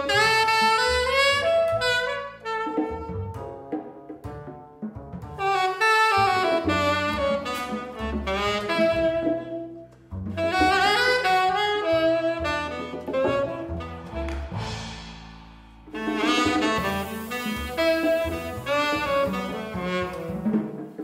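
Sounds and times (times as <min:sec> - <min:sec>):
tenor saxophone melody: 0:00.0 - 0:03.6, 0:05.4 - 0:14.6, 0:16.0 - 0:20.8
double bass: 0:00.0 - 0:21.0.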